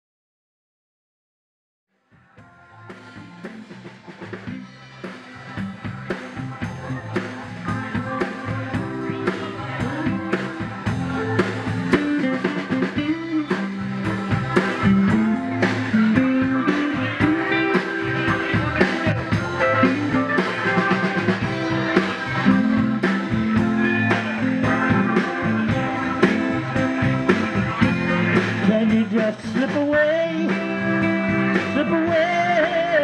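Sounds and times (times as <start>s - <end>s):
electric bass: 2.2s - 33.0s
keyboards: 2.3s - 33.0s
drum kit beat: 2.4s - 33.0s
electric guitar: 2.6s - 33.0s.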